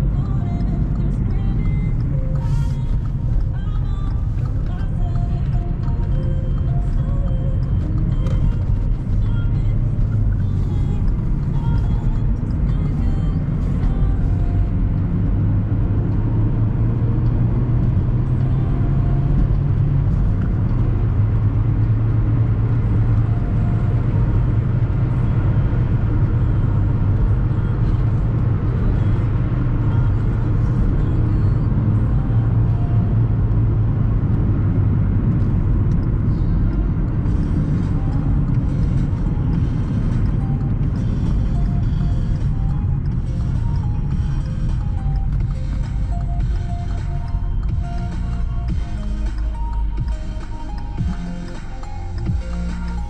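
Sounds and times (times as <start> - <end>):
car engine hum: 0.0 - 53.0
road noise: 0.0 - 53.0.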